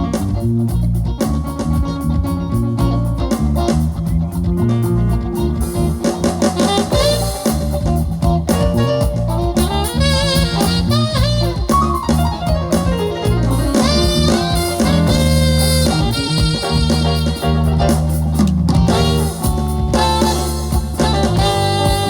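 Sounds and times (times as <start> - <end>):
music with heavy bass line: 0.0 - 22.0.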